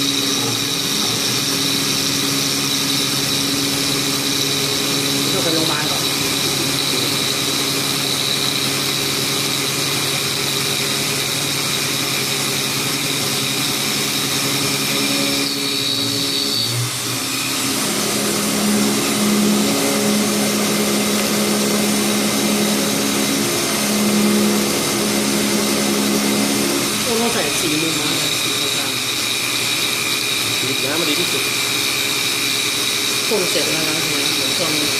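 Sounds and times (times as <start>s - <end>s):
milling machine hum: 0.0s - 34.9s.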